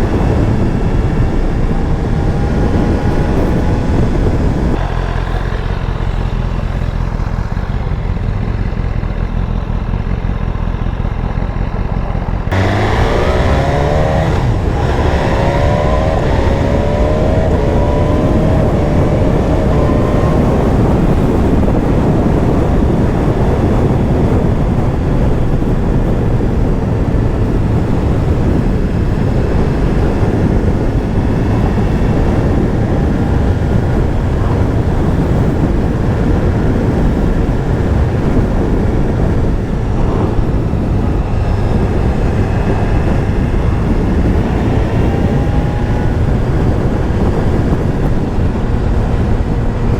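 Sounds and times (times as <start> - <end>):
motorcycle engine accelerating: 0.0 - 49.9
wind rush: 0.0 - 49.9.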